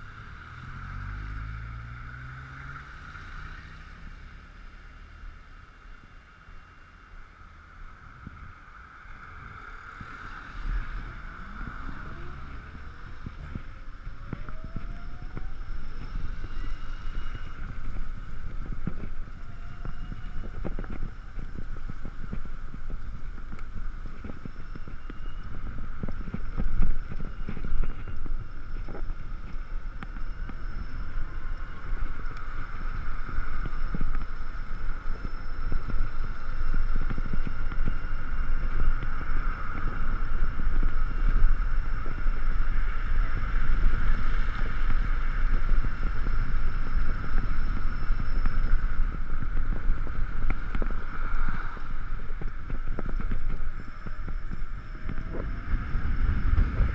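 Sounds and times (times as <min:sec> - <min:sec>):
road noise: 0:00.0 - 0:56.9
wind rumble on microphone: 0:00.0 - 0:56.9
electric motor whine: 0:10.4 - 0:56.9.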